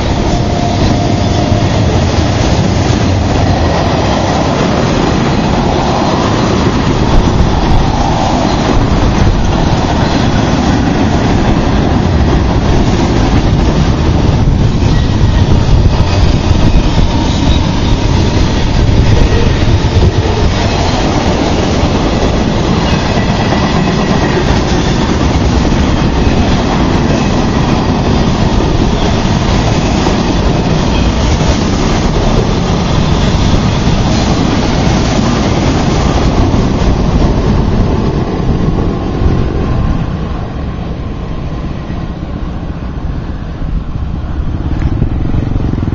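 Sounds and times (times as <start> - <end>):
freight train cars rolling on rails: 0.0 - 45.9.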